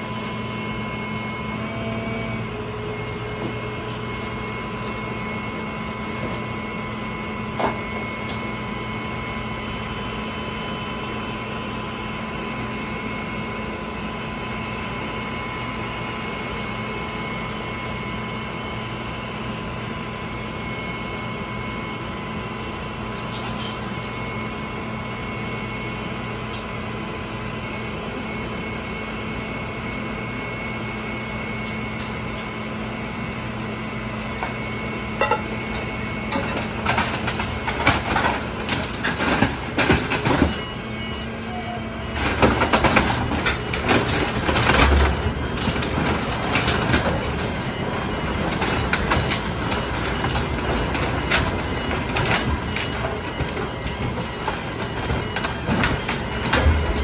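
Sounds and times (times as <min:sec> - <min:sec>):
compactor hum and whine: 0:00.0 - 0:57.0.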